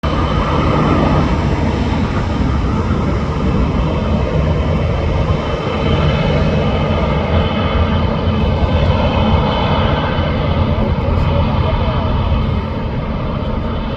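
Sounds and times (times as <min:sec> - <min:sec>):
airliner engines running: 0:00.0 - 0:13.9.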